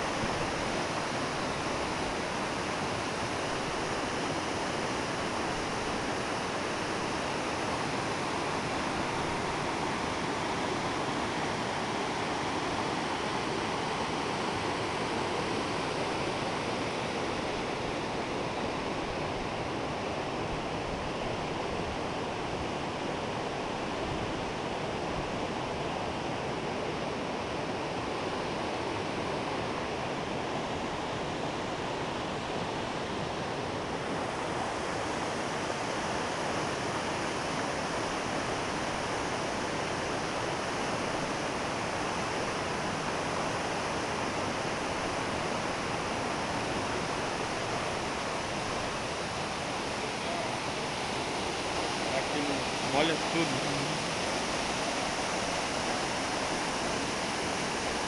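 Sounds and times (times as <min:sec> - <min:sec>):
rushing stream and waterfall: 0:00.0 - 0:58.0.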